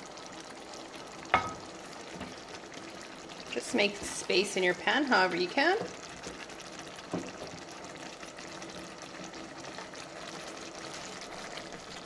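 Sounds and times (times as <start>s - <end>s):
sauce sizzling in a skillet: 0.0s - 12.0s.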